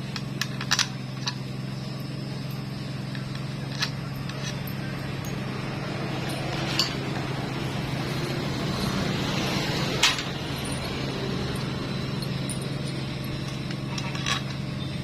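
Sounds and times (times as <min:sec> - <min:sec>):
metallic clinks of tools: 0:00.0 - 0:05.5, 0:06.2 - 0:07.3, 0:08.0 - 0:15.0
steady low hum: 0:00.0 - 0:15.0.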